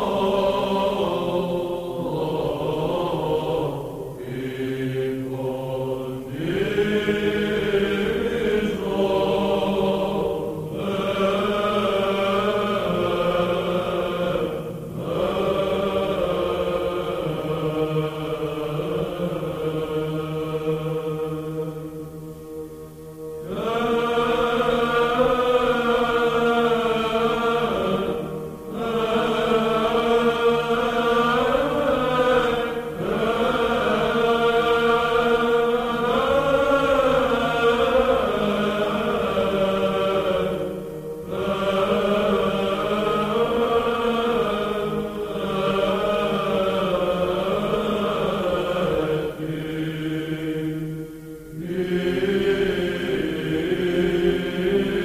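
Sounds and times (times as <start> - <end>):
unaccompanied chant: 0.0 - 55.0.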